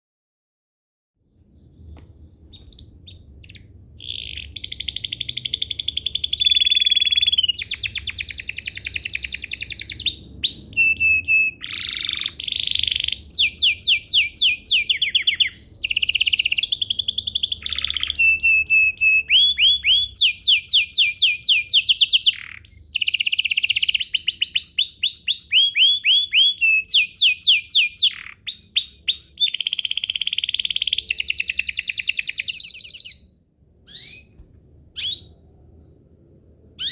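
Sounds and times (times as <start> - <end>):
canary singing trills: 2.3 - 34.4, 35.0 - 35.5.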